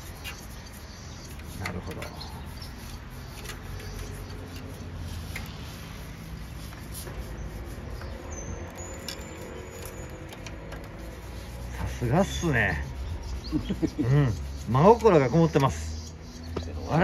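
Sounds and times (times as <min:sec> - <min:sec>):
bristle brush scrubbing: 0:00.0 - 0:17.0.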